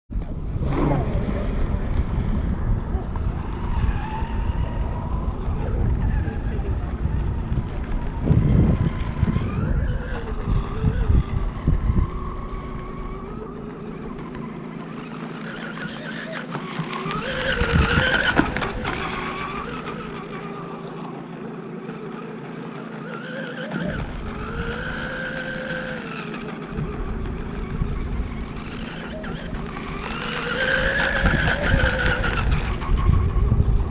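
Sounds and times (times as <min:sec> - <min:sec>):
wind rumble on microphone: 0:00.1 - 0:33.9
model boat motor whine: 0:00.2 - 0:33.9.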